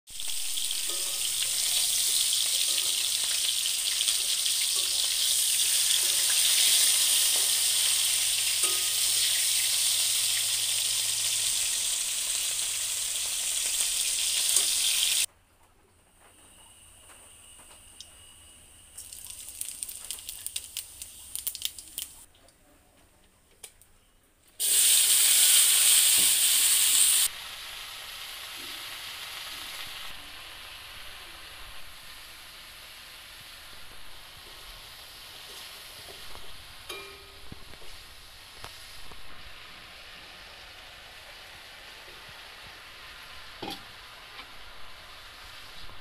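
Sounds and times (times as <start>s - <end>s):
oil sizzling in a wok: 0.1s - 15.3s, 16.7s - 22.3s, 24.6s - 46.0s.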